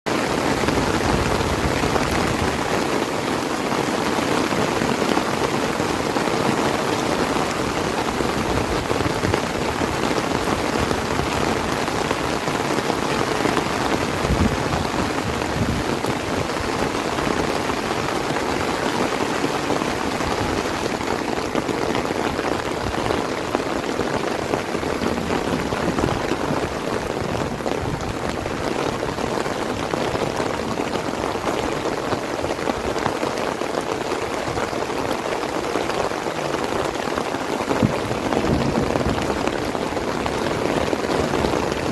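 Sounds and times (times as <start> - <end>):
heavy rain pattering: 0.1 - 41.9.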